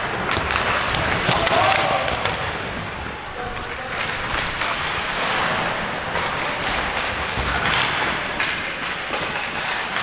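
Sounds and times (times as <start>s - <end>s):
hockey sticks and puck clacking: 0.0s - 10.0s
skate blades scraping ice: 0.0s - 10.0s.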